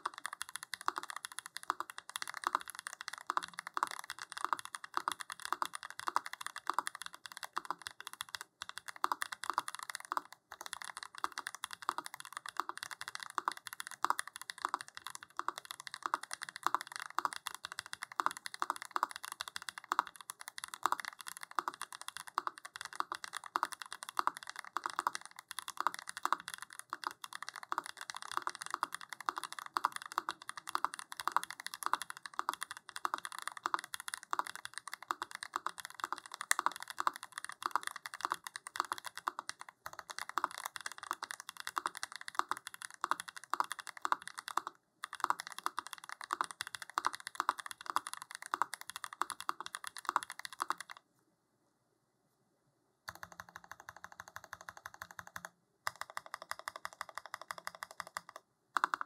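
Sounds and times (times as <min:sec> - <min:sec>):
mechanical keyboard typing: 0:00.0 - 0:51.0, 0:53.1 - 0:59.0.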